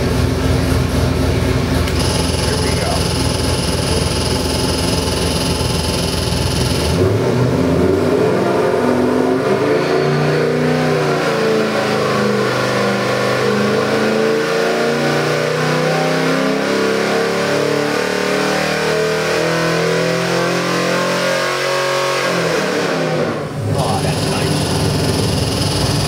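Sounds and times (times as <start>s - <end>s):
engine revving under load: 0.0s - 26.0s.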